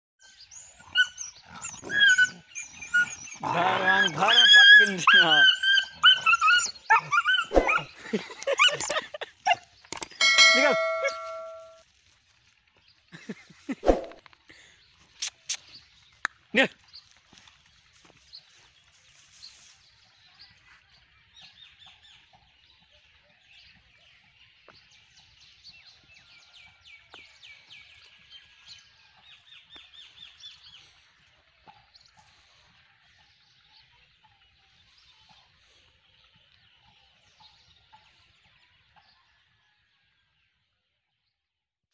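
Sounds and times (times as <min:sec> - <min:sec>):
faint birdsong chirps and trills: 0:00.2 - 0:41.6.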